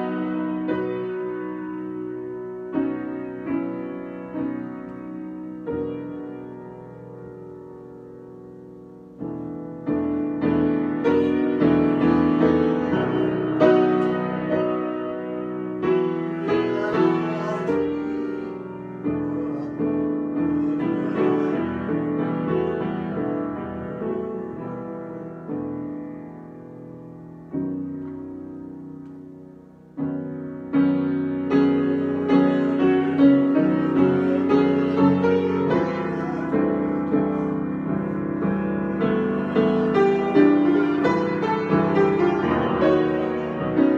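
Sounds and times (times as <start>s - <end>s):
solo piano: 0.0s - 43.9s.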